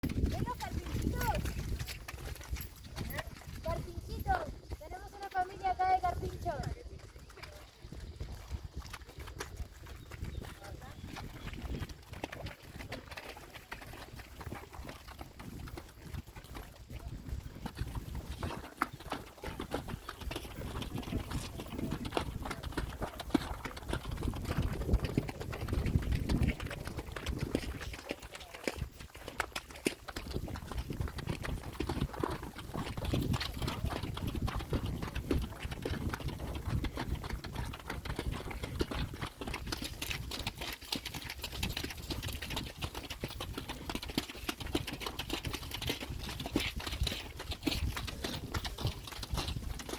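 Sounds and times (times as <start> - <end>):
horse hooves clopping: 0.0 - 49.9.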